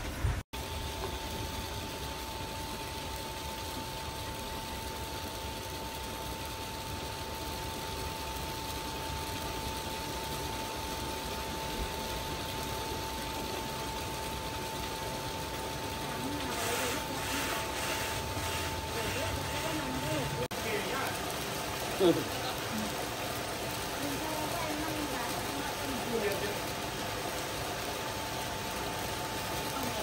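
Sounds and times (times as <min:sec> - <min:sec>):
machine hiss: 0:00.0 - 0:30.0.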